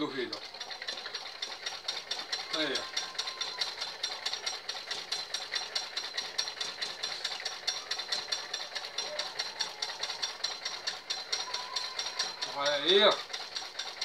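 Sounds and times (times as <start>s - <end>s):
sewing machine clattering: 0.0s - 14.0s.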